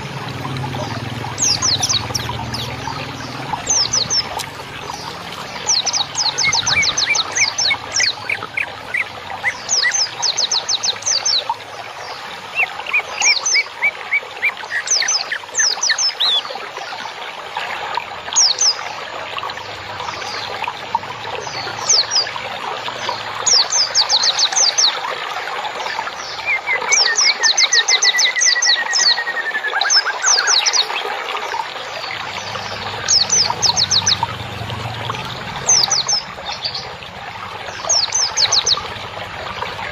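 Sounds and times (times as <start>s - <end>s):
running water trickling: 0.0s - 39.9s
songbirds chirping: 0.0s - 39.9s.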